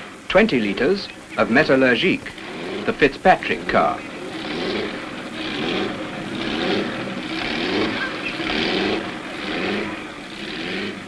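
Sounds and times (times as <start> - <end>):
vintage car engine running: 0.0 - 11.0.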